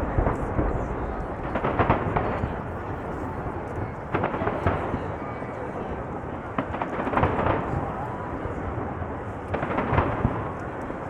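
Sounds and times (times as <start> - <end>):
fireworks booming and cracking: 0.0 - 11.0
rumble of fireworks launches: 0.0 - 11.0.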